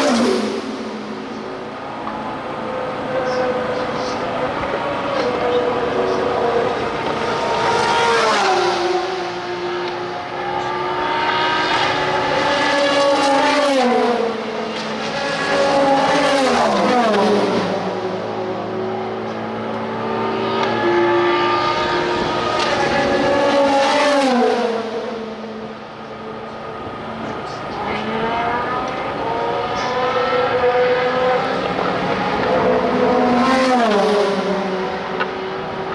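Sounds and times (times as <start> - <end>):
race cars passing at speed: 0.0 - 35.9.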